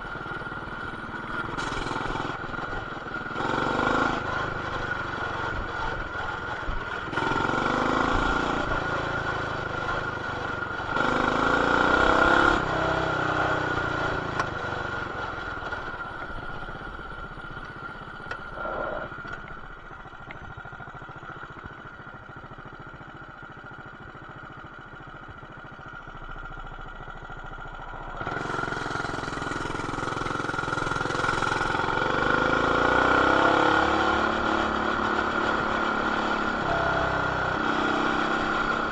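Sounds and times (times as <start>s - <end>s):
muffled mini bike engine revving: 0.0s - 38.9s.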